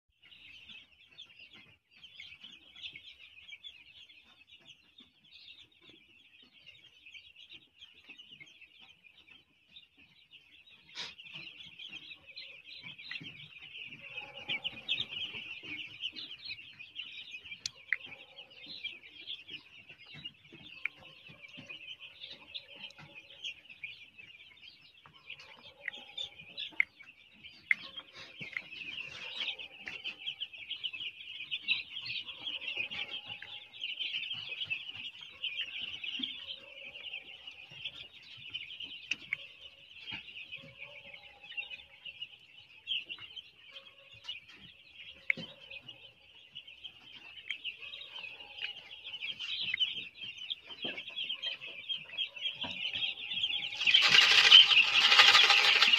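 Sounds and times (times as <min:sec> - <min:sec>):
chicks peeping: 0:00.2 - 0:55.9.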